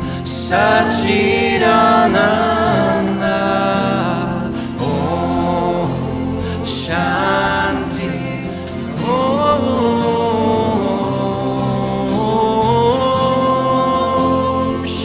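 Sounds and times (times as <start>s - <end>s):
sustained instrumental backing: 0.0s - 15.0s
voices singing long notes: 0.0s - 15.0s.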